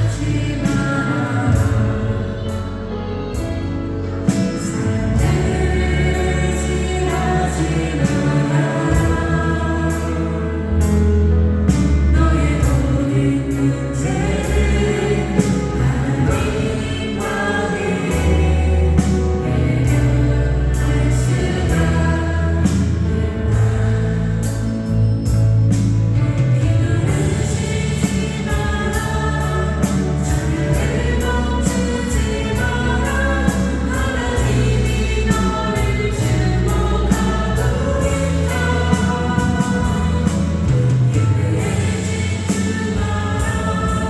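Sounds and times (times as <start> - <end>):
bass line: 0.0 - 44.0
choir singing worship song: 0.0 - 44.0
steady cymbal beat: 3.4 - 44.0.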